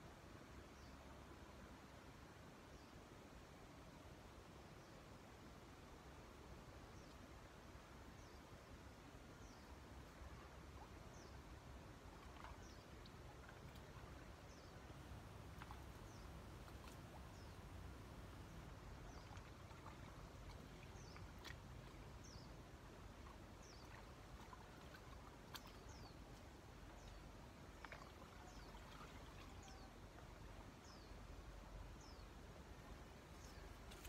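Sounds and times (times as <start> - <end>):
background hiss: 0.0 - 27.8.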